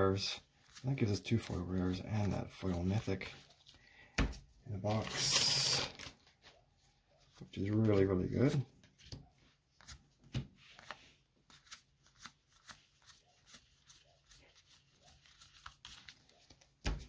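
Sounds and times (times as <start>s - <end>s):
cards being flipped through: 0.6s - 6.5s, 7.5s - 17.0s.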